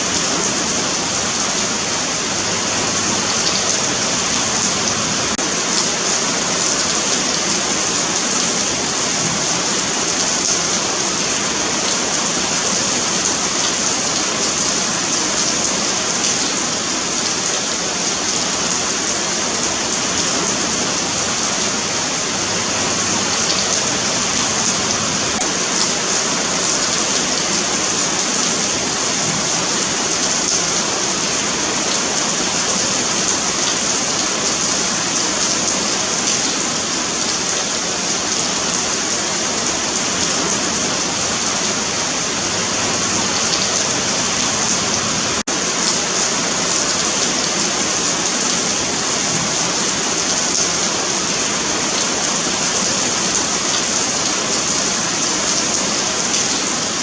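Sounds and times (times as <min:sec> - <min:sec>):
rain on pavement: 0:00.0 - 0:57.0.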